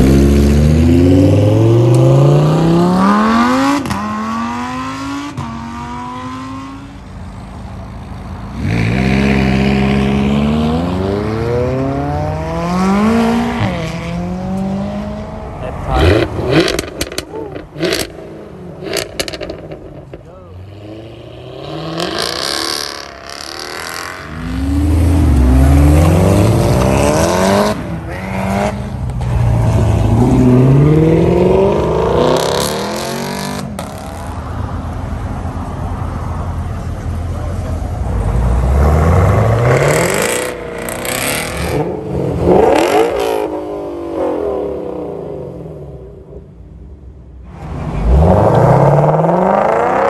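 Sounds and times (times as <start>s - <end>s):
sports cars accelerating hard: 0.0s - 7.1s, 8.5s - 46.4s, 47.5s - 50.0s.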